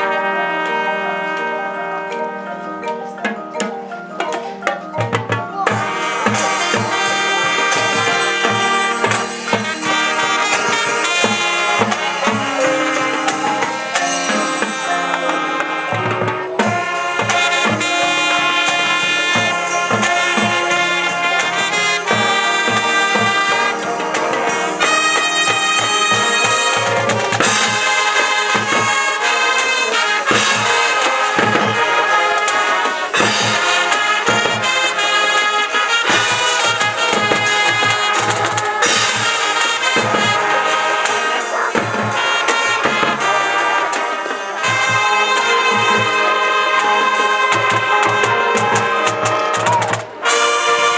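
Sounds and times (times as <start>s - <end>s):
brass melody: 0.0s - 50.9s
marching drums beat: 3.3s - 50.9s.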